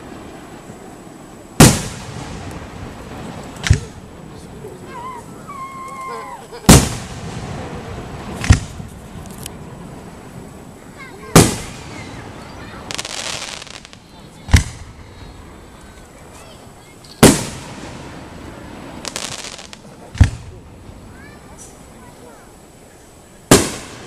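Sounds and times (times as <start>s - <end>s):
fireworks booming: 0.0s - 24.0s
hissing crackle: 0.0s - 24.0s.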